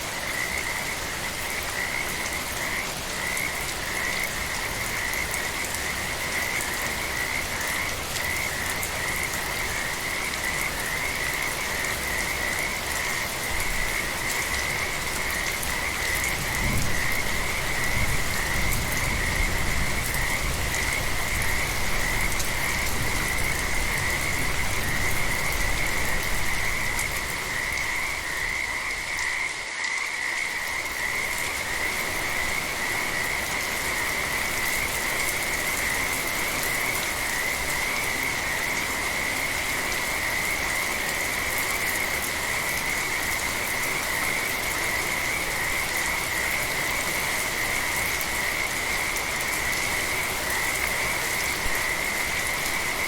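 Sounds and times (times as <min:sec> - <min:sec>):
gentle rain: 0:00.0 - 0:53.0.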